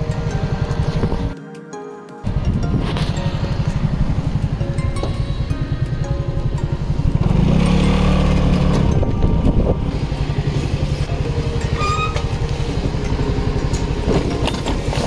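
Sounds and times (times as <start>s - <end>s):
scooter engine idling: 0.0s - 1.4s, 2.2s - 15.0s.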